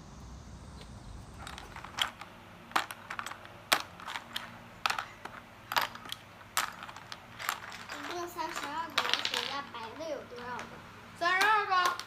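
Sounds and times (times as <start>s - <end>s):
small hard pieces clicking: 1.4s - 12.0s.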